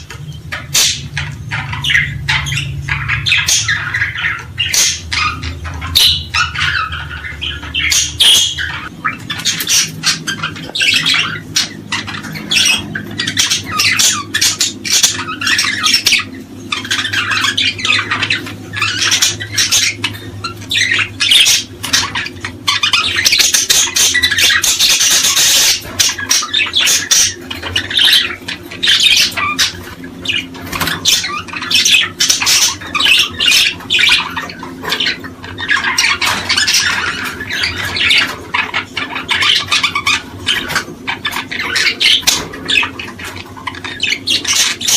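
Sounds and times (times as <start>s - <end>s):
songbirds chirping and calling: 0.0s - 44.9s.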